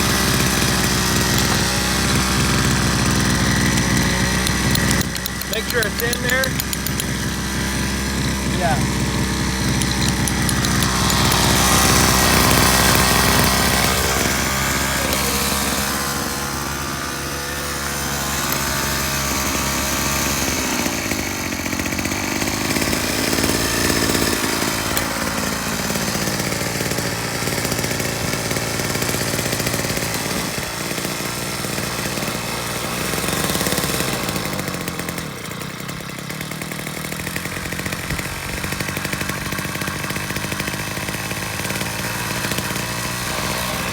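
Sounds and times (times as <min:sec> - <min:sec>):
jackhammer hammering: 0:00.0 - 0:43.9.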